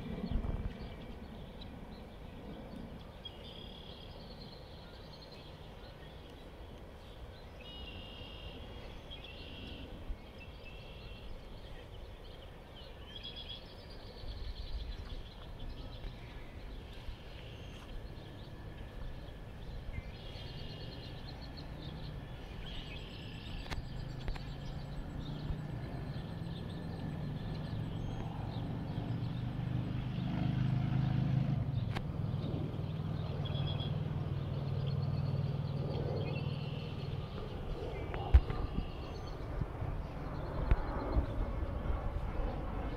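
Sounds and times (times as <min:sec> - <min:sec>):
low engine rumble: 0:00.0 - 0:42.9.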